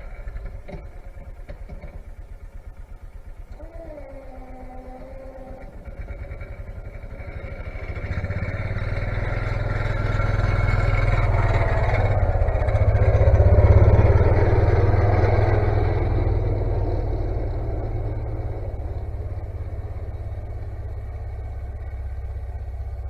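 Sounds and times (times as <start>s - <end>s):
snowplow engine throbbing: 0.0s - 23.0s.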